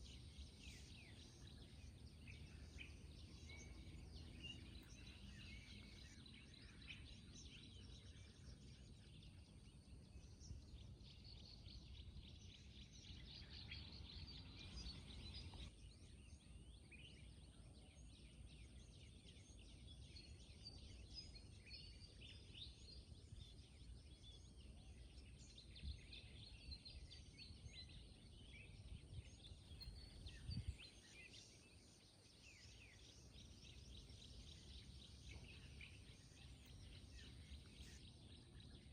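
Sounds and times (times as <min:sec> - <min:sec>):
bird chirps: 0:00.0 - 0:38.9.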